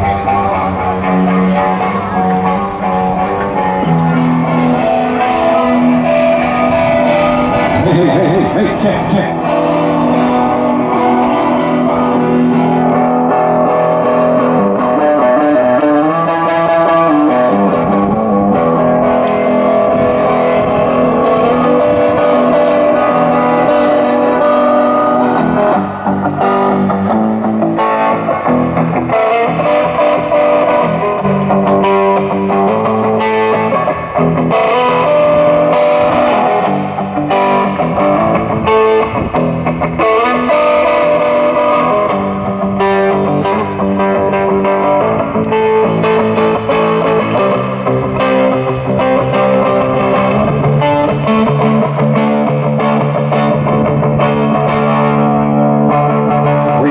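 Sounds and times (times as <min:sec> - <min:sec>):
distorted electric guitar music: 0:00.0 - 0:56.9.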